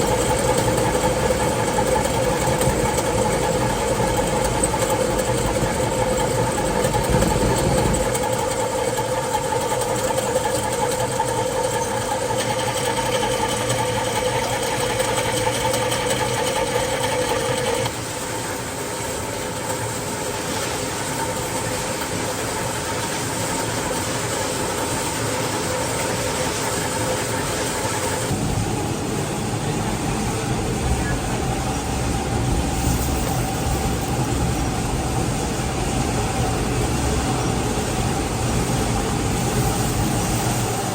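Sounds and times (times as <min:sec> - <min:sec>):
workshop machinery humming: 0:00.0 - 0:40.9.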